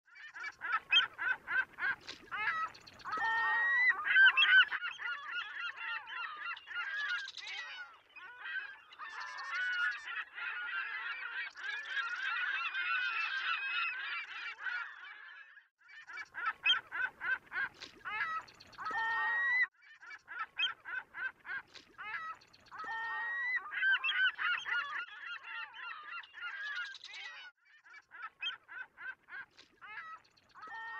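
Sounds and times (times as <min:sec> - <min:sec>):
gulls calling: 0:00.2 - 0:15.0, 0:16.1 - 0:27.3, 0:28.0 - 0:30.9.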